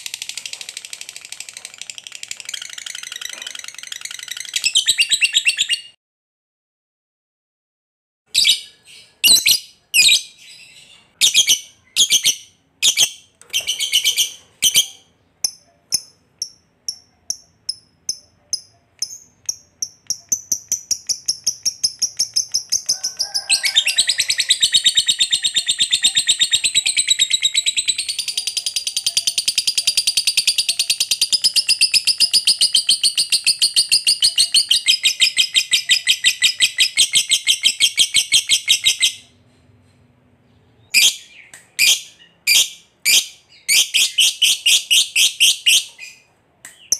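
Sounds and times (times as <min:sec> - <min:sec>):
lovebird chirping and trilling: 0:00.0 - 0:06.0, 0:08.3 - 0:39.4, 0:40.7 - 0:46.9.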